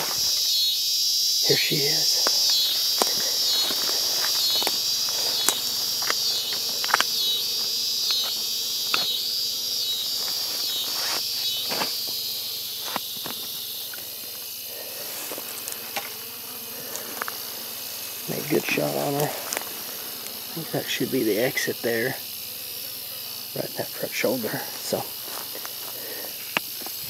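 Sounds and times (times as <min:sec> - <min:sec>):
insects calling in pulses: 0:00.0 - 0:27.0
rustles in grass: 0:01.5 - 0:20.9, 0:24.2 - 0:27.0.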